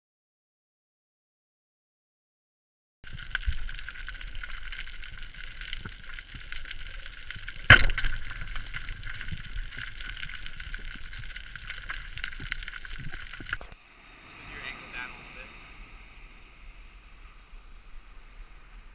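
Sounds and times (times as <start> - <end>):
underwater crackling hiss: 3.1 - 18.9.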